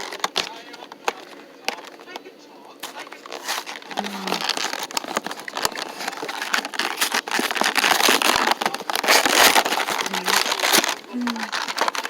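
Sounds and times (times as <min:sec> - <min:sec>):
plastic and cardboard crinkling: 0:00.0 - 0:12.0.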